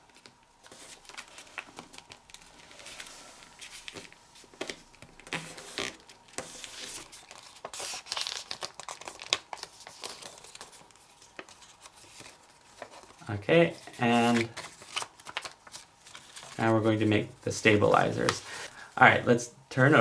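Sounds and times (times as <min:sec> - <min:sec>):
paper rustling and crinkling: 0:00.0 - 0:17.1.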